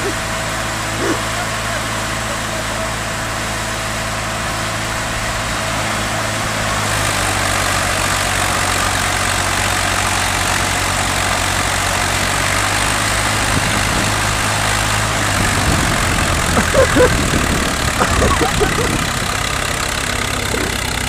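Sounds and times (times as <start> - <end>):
tractor engines revving: 0.0 - 21.0.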